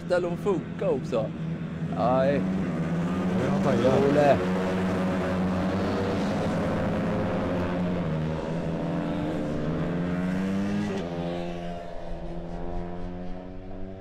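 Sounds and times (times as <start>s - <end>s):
racing motorcycle engines revving: 0.0s - 14.0s.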